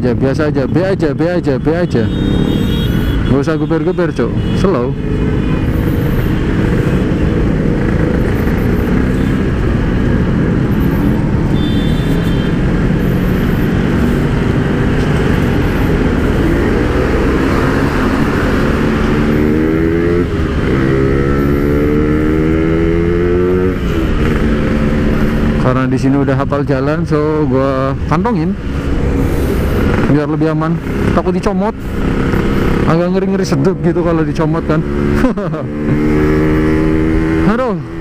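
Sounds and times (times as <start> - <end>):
motorcycle engine accelerating: 5.0 - 38.0.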